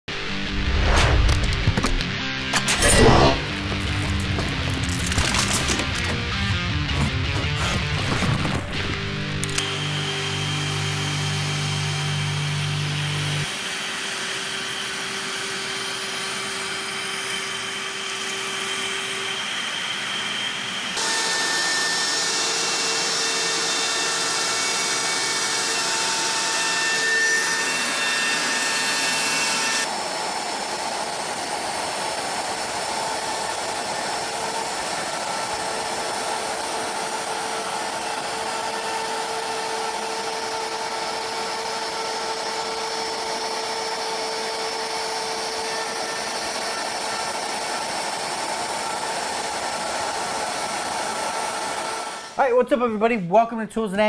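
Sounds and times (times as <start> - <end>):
shop vacuum running: 0.1 - 52.5
router milling wood: 2.5 - 52.4.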